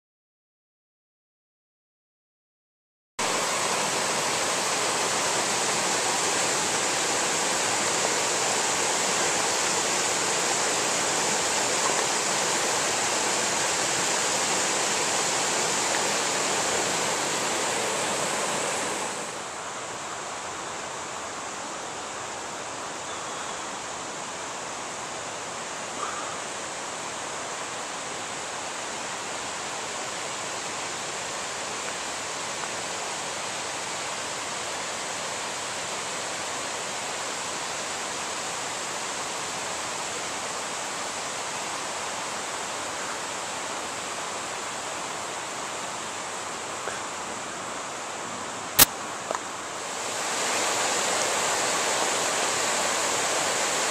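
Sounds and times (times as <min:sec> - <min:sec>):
stream rushing over rocks: 0:03.2 - 0:53.9.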